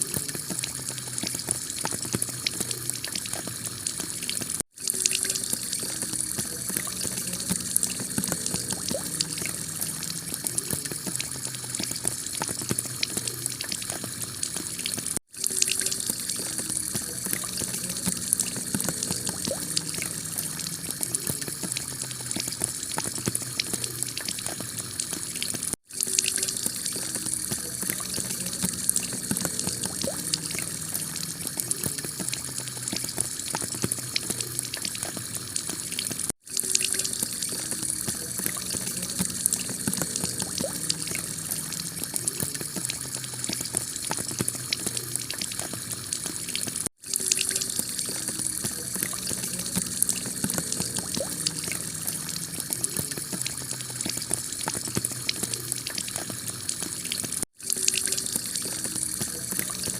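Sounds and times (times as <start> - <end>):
water running off: 0.0 - 59.9.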